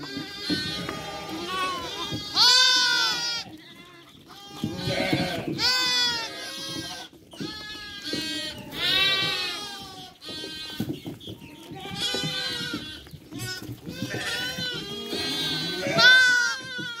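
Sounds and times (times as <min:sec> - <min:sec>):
sheep and lambs bleating: 0:00.0 - 0:17.0.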